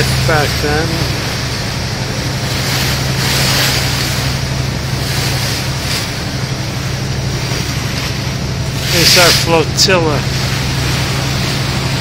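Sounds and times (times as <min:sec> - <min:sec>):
ferry engine humming: 0:00.0 - 0:12.0
rushing water: 0:00.0 - 0:12.0.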